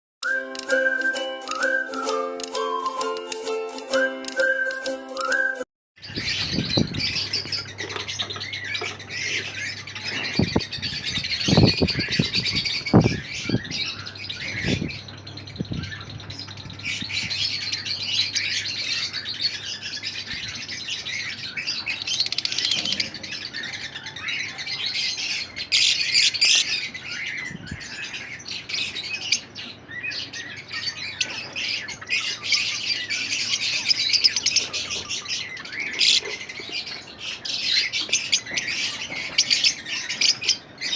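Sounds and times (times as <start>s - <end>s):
lovebirds chattering and squawking: 6.0s - 40.9s.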